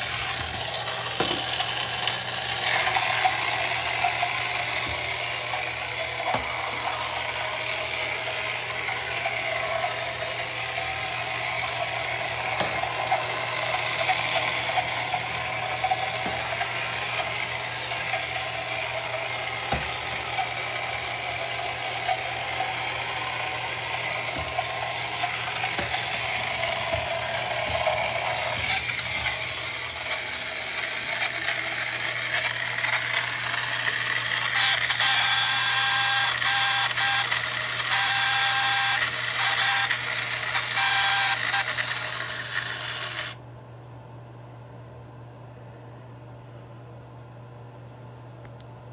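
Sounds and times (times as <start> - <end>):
toy motor whirring: 0.0 - 43.4.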